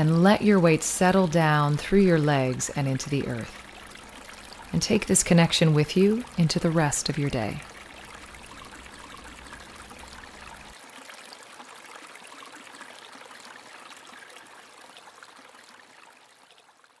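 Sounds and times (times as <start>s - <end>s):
creek water trickling: 0.0s - 17.0s.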